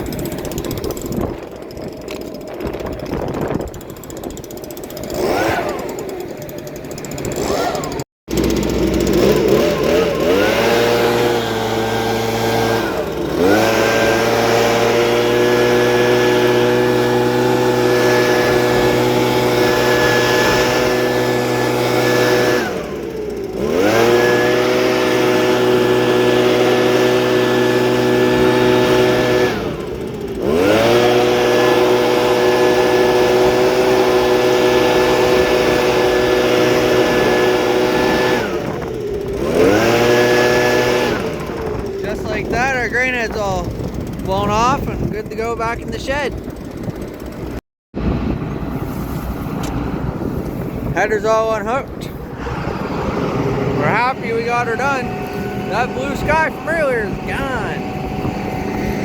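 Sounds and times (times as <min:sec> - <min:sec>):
leaf blower engine revving: 0:00.0 - 0:47.6, 0:48.7 - 0:59.0.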